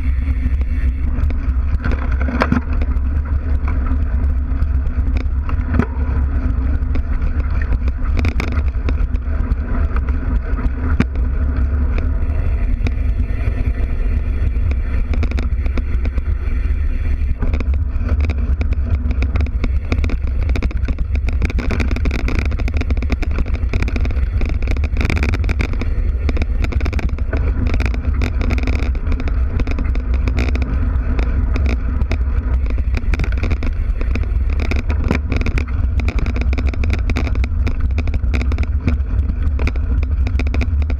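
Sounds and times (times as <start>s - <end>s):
bike knocks and rattles: 0.0s - 40.9s
tyre and wind rumble: 0.0s - 40.9s.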